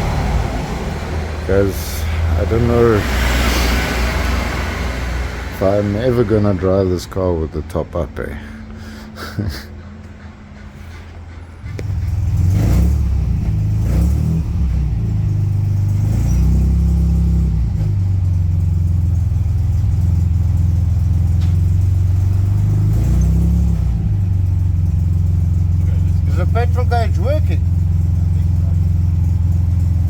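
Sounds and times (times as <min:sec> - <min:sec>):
car engine starting and revving: 0:00.0 - 0:07.3, 0:11.6 - 0:30.0
car engine idling: 0:00.0 - 0:30.0.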